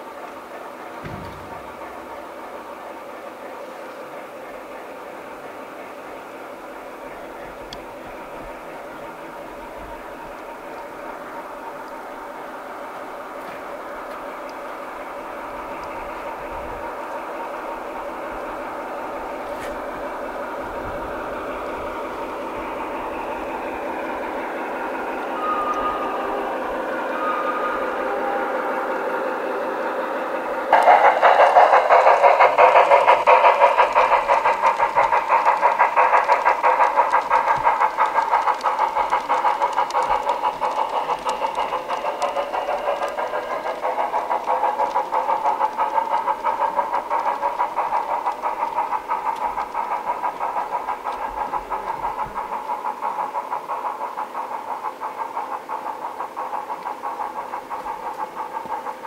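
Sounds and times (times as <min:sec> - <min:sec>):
model train whirring: 0:00.0 - 0:59.0.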